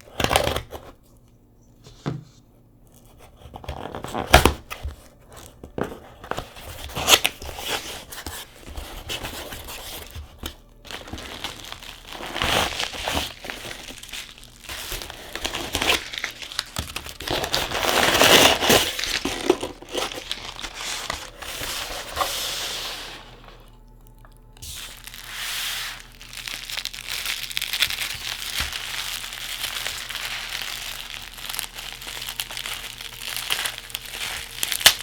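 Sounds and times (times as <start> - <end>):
packaging crinkling and tearing: 0.0 - 1.0, 3.0 - 35.0.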